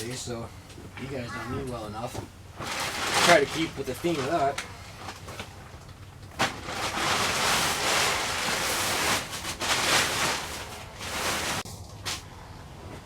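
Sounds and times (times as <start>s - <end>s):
tarp rustling and crinkling: 0.0s - 12.3s.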